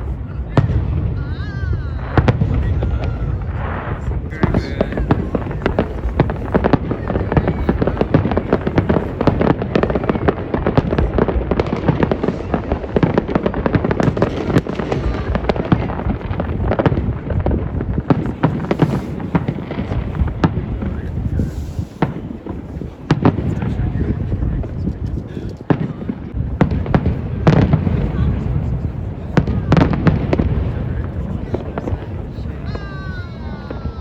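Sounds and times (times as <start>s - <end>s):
fireworks crackling and banging: 0.0s - 34.0s
low rumble of explosions: 0.0s - 34.0s.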